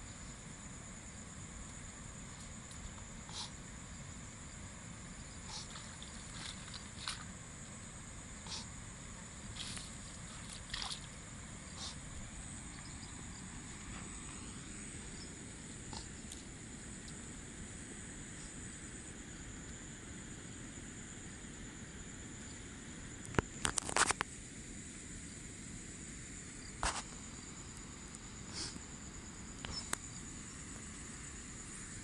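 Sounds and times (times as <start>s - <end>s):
high insect drone: 0.0s - 32.0s.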